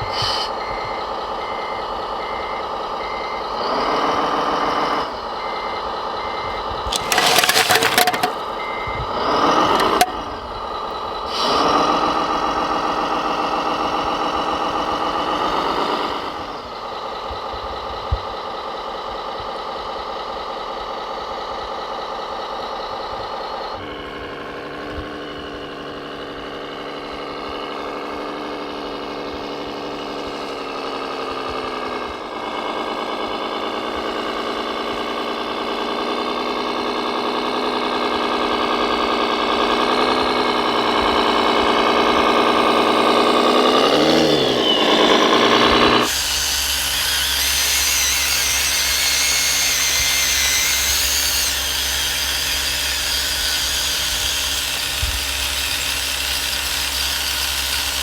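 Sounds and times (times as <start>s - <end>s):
model vehicle motor drone: 3.0s - 18.9s, 22.3s - 58.0s.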